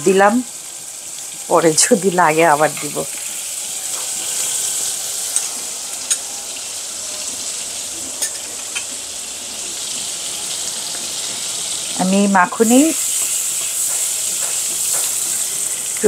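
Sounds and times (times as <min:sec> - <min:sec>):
butter sizzling in a pan: 0:00.0 - 0:16.0.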